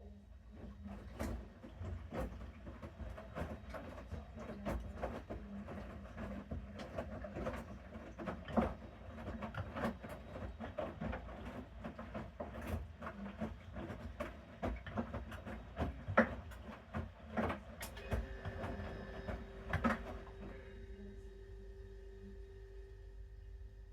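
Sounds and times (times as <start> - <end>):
washing machine drum rumbling: 0.5 - 21.2
laundry thumping and clicking: 0.6 - 20.4.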